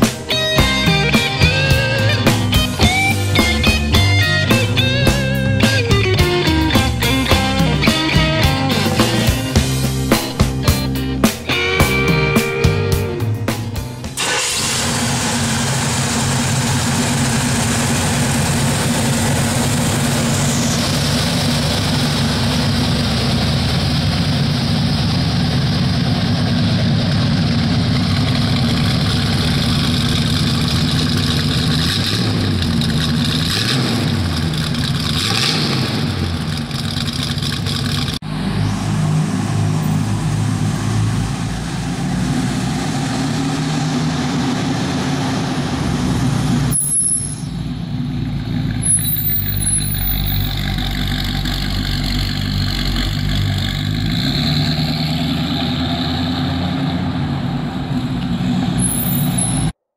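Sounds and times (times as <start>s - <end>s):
engine idling and revving: 0.0s - 59.8s
truck pulling away: 0.0s - 59.8s.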